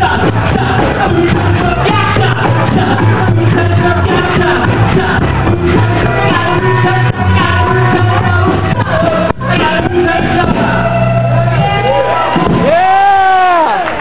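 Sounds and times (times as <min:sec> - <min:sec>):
person singing: 0:00.0 - 0:12.8
pulsing bass line: 0:00.0 - 0:13.1
rock and roll band playing: 0:00.0 - 0:13.5.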